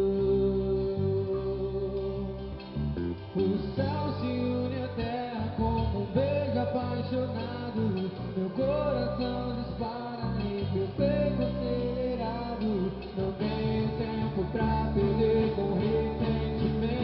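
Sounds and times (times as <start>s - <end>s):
live band with guitar and melody: 0.0s - 17.0s.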